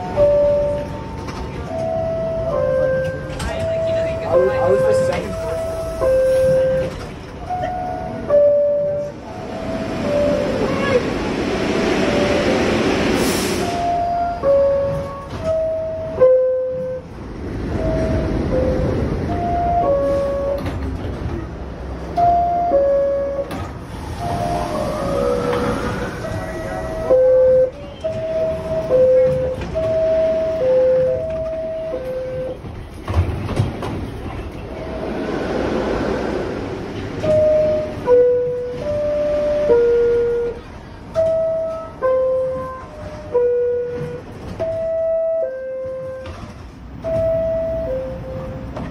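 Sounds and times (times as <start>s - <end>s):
train rumble and hiss: 0.0s - 48.9s.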